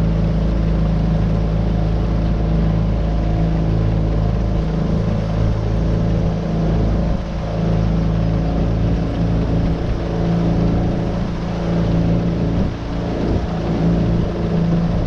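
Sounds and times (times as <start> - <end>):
outboard motor running: 0.0 - 15.0
water noise from the hull: 0.0 - 15.0.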